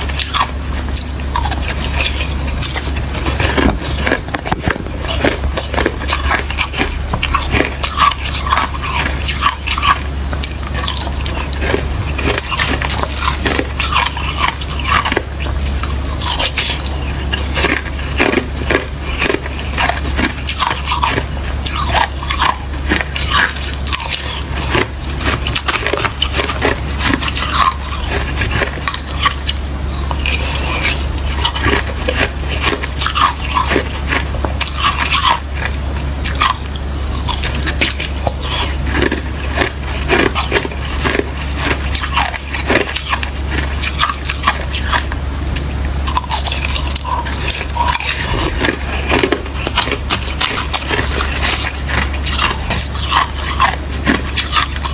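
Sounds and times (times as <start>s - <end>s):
chewing slushy ice: 0.0s - 54.9s.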